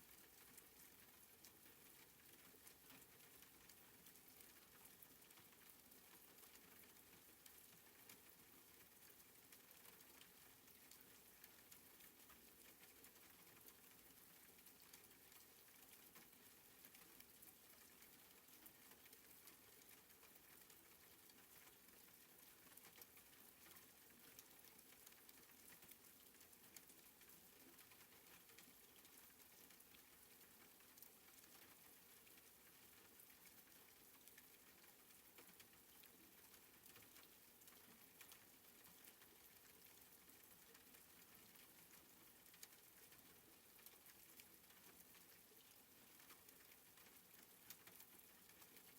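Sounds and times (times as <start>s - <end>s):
soft rain hiss: 0.0s - 48.9s.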